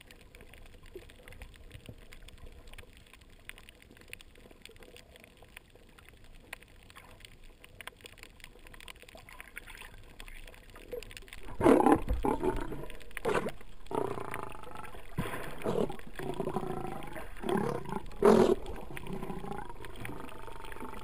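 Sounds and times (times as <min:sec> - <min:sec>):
underwater crackling and clicks: 0:00.0 - 0:21.0.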